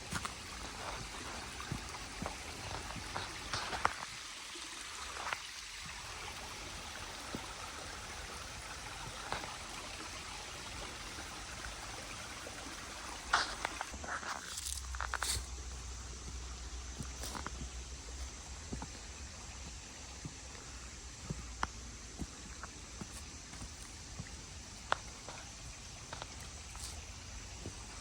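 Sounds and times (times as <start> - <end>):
creek running: 0.0 - 28.0.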